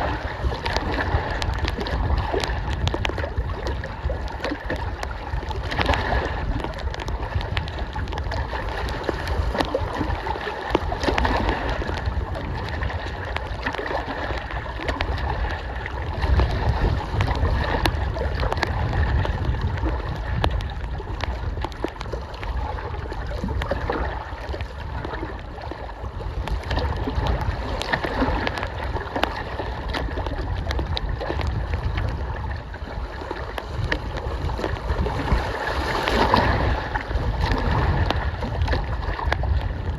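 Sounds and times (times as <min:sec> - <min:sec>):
rain ticks: 0:00.0 - 0:15.6, 0:16.2 - 0:25.7, 0:26.4 - 0:32.4, 0:37.4 - 0:39.9
lake water lapping at shore: 0:00.0 - 0:39.9
wind rumbling on microphone: 0:00.0 - 0:39.9.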